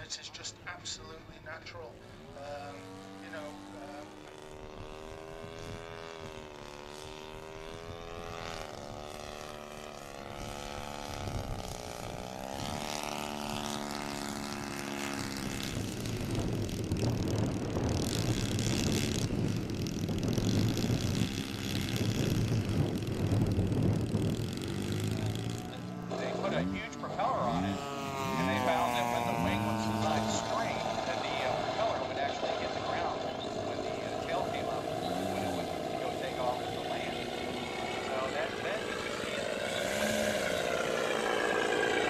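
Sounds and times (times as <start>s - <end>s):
model airplane engine: 0.0s - 42.0s.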